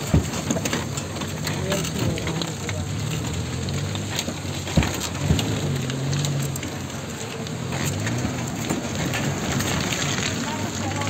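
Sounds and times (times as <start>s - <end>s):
engine working hard: 0.0s - 11.0s
tyres churning through sand: 0.0s - 11.0s
vehicle knocks: 0.0s - 11.0s.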